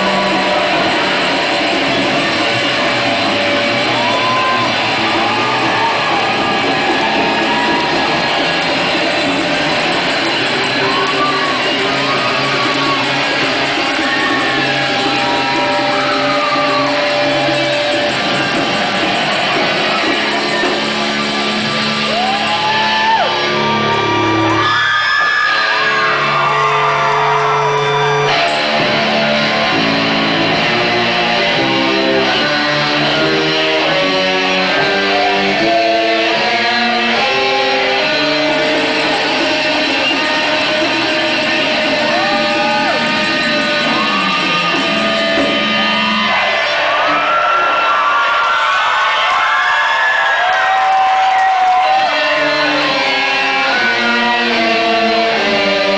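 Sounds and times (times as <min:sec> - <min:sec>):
rock band with electric guitars: 0:00.0 - 0:55.9.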